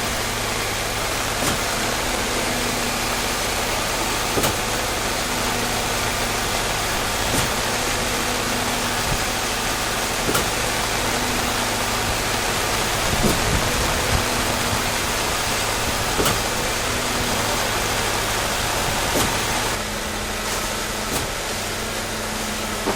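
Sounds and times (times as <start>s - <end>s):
low steady hum: 0.0s - 22.9s
rain hissing: 0.0s - 22.9s.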